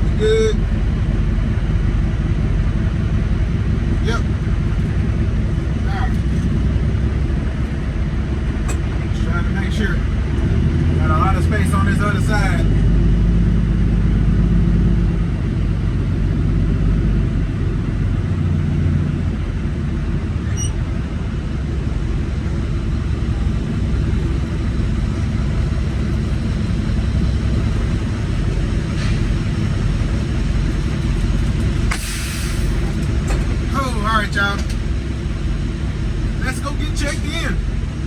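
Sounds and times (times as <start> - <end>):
truck diesel engine rumble: 0.0 - 38.0.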